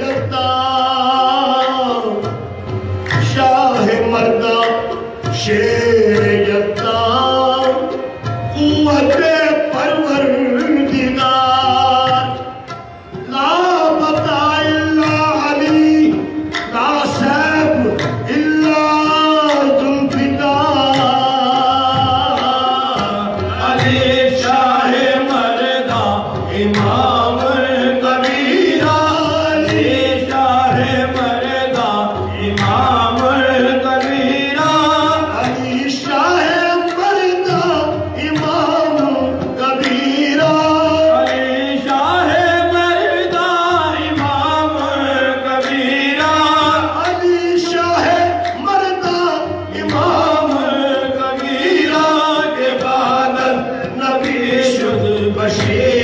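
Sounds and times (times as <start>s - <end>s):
man singing: 0.0s - 2.4s, 3.1s - 12.4s, 13.3s - 56.0s
instrumental accompaniment: 0.0s - 56.0s.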